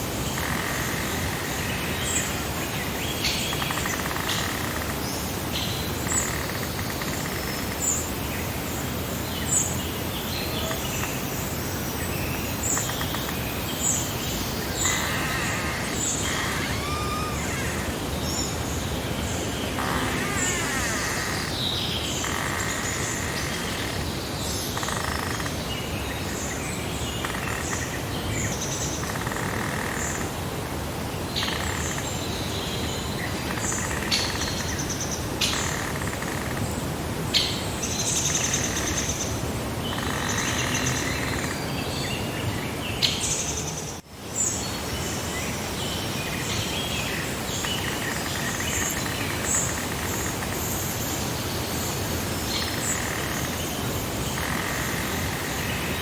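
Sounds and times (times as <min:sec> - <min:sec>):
songbirds chirping and trilling: 0:00.0 - 0:56.0
steady outdoor hiss: 0:00.0 - 0:56.0.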